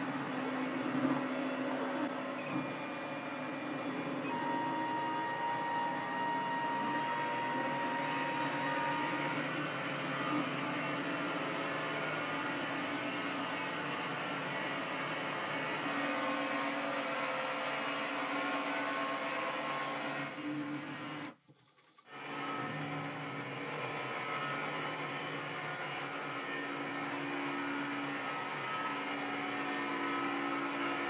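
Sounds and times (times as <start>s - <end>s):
lathe motor and gear whine: 0.0s - 21.4s, 22.1s - 31.0s.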